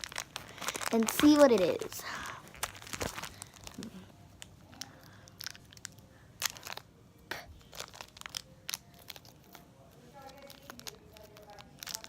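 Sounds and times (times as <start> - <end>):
packaging crinkling: 0.0 - 6.9, 7.6 - 12.0.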